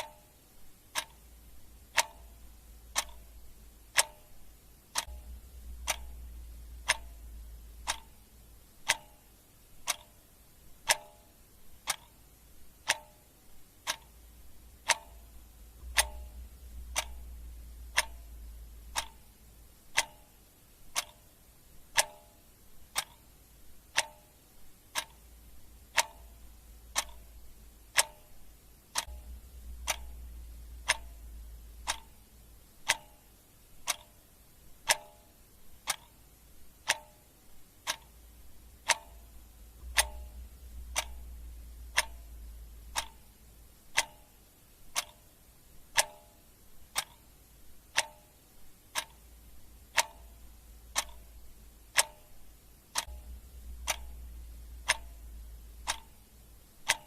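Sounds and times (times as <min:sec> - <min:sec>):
clock ticking: 0:00.0 - 0:57.0
faint low rumble: 0:00.0 - 0:57.0.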